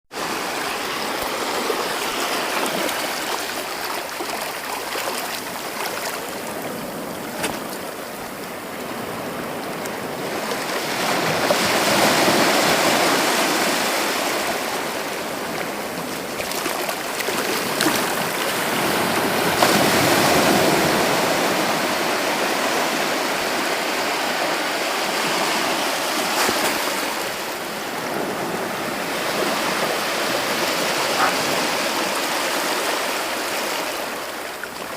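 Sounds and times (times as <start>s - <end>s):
sea waves breaking on a beach: 0.1s - 34.9s.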